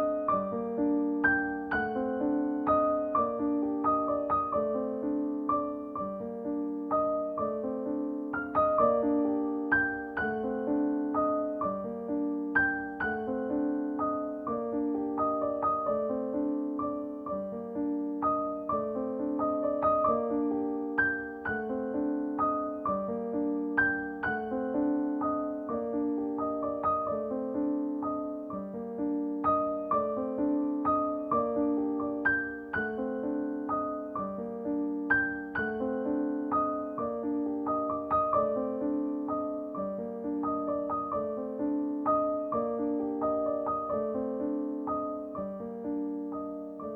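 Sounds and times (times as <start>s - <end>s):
gentle piano melody: 0.0s - 46.9s.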